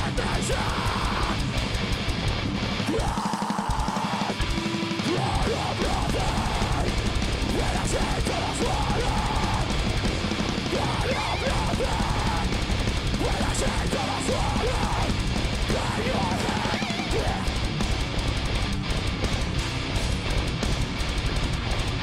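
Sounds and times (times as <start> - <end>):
bass guitar: 0.0 - 22.0
distorted guitars: 0.0 - 22.0
drum kit: 0.0 - 22.0.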